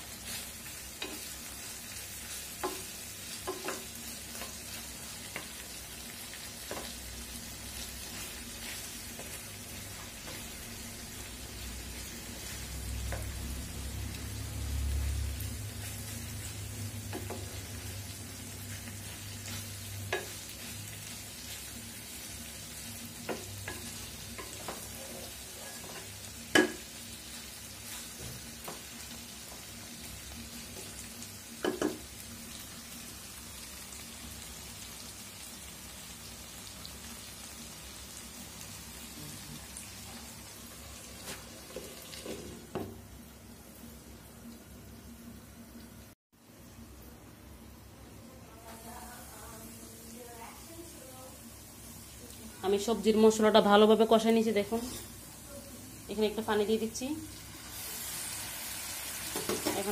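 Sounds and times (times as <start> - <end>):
chicken sizzling in a pan: 0.0 - 59.9.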